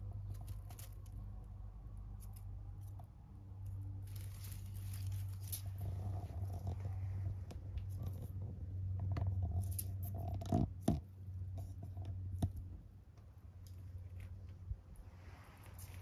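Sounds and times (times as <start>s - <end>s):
rustles: 0.0s - 16.0s
steady low rumble: 0.0s - 16.0s.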